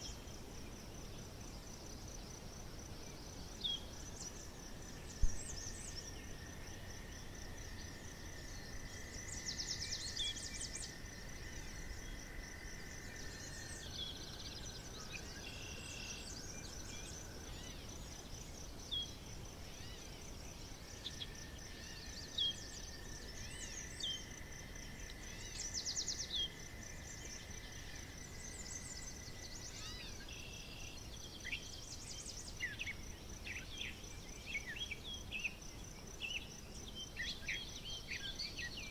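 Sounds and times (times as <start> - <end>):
insect trill: 0.0 - 38.9.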